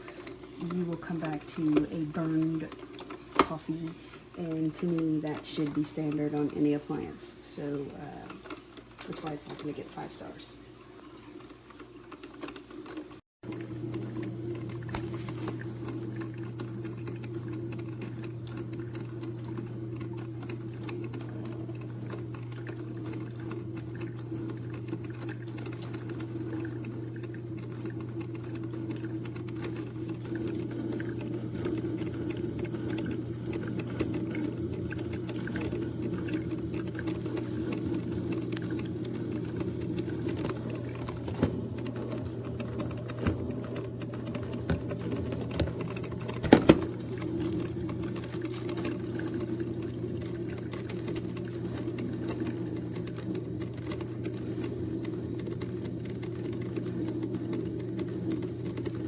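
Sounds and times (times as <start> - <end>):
coffee maker crackling and sputtering: 0.0 - 59.0
coffee maker humming: 0.0 - 59.0.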